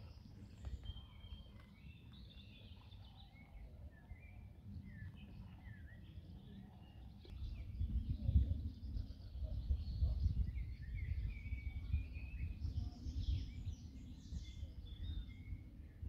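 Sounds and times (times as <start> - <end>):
small birds chirping and whistling: 0.0 - 16.0.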